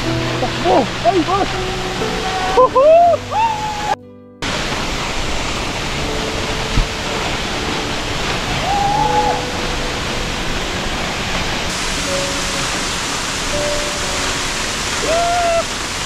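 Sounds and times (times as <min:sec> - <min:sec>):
soft background music: 0:00.0 - 0:16.0
waterfall rushing: 0:00.0 - 0:16.0.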